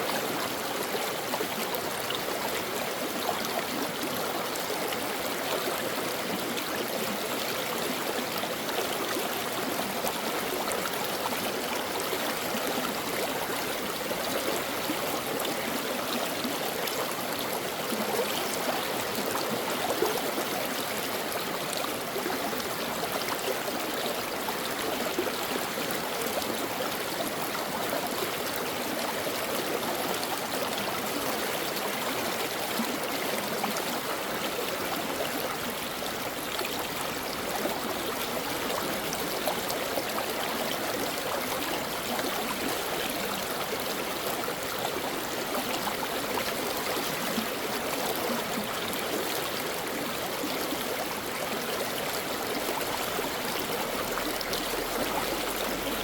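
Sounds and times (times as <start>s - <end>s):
brook water babbling: 0.0s - 56.0s.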